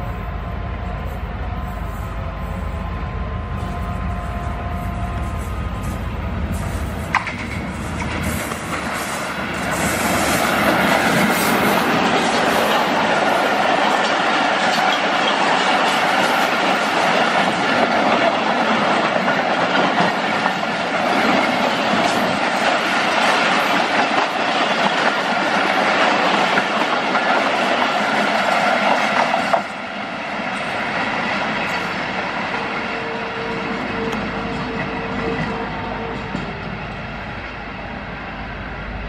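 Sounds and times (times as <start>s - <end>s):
train wheels clattering on rails: 5.5s - 37.7s.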